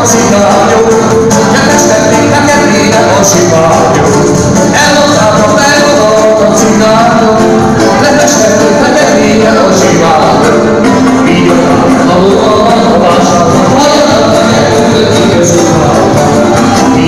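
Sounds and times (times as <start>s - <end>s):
live band playing: 0.0s - 17.0s
person singing: 0.0s - 17.0s.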